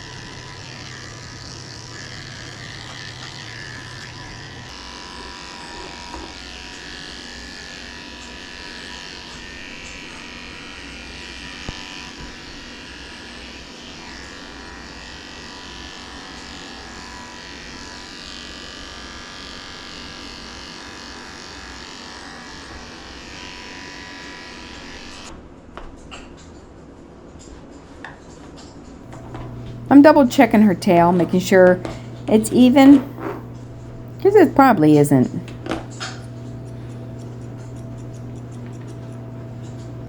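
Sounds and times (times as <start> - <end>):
electric clippers running: 0.0 - 25.3, 29.1 - 40.0.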